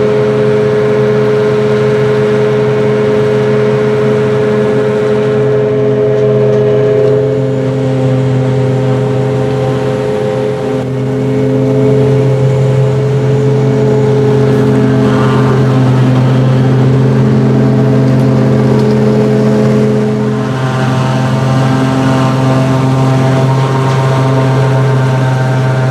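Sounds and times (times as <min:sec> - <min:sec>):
heavy diesel engines running: 0:00.0 - 0:25.9.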